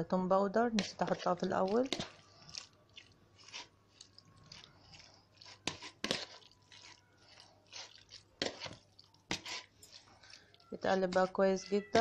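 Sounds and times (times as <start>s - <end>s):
wet squishes of mixing chicken: 0.8s - 12.0s.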